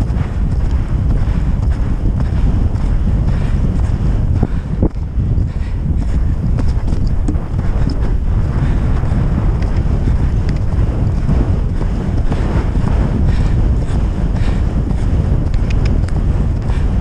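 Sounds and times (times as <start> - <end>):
wind buffeting on microphone: 0.0 - 17.0.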